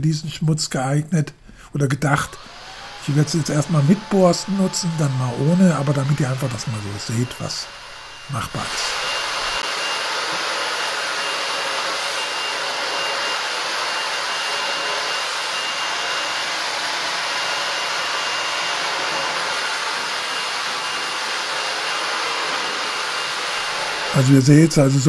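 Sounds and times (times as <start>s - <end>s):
cordless vacuum whining: 2.1s - 25.0s.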